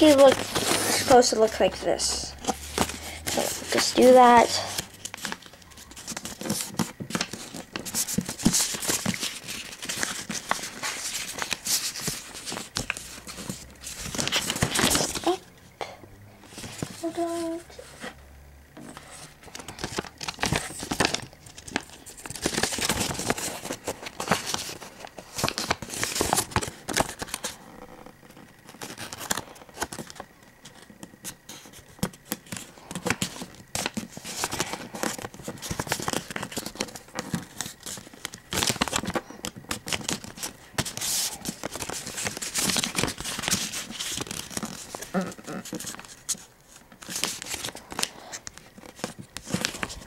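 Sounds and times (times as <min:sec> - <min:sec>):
paper crinkling and rustling: 0:00.0 - 0:15.4, 0:16.4 - 0:18.2, 0:18.8 - 0:50.0.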